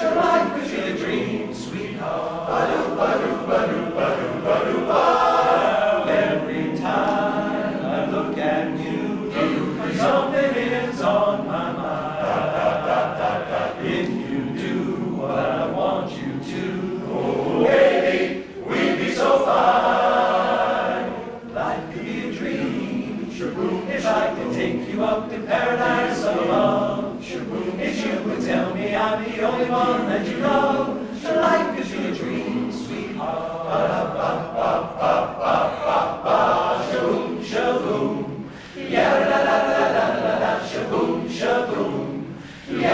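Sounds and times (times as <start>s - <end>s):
men's chorus singing a cappella: 0.0s - 42.9s.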